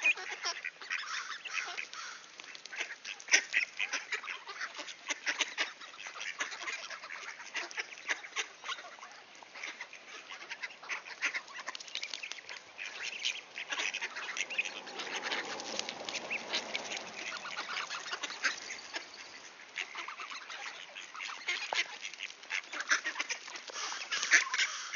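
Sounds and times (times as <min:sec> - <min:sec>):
ducks quacking: 0:00.0 - 0:24.9.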